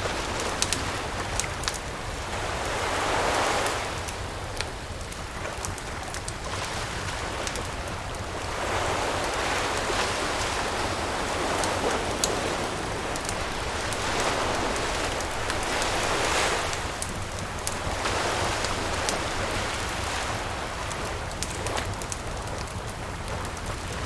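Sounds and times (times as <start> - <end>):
campfire crackling and popping: 0.0 - 2.8, 3.4 - 24.0
ocean waves washing up beach: 0.0 - 24.0.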